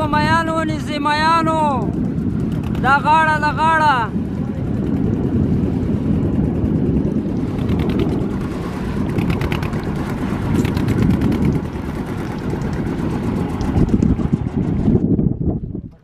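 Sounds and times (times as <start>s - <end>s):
boat engine chugging: 0.0s - 16.0s.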